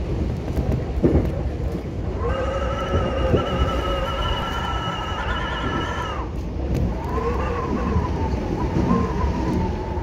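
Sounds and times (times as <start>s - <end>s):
train rumbling: 0.0s - 10.0s
wind whistling in subway car: 0.0s - 10.0s.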